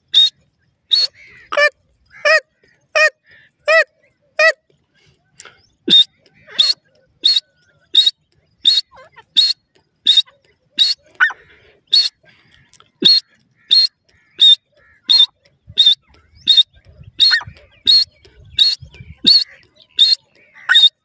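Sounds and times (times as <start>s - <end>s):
bird high-pitched call: 0.0s - 4.6s, 5.4s - 12.2s, 13.0s - 21.0s.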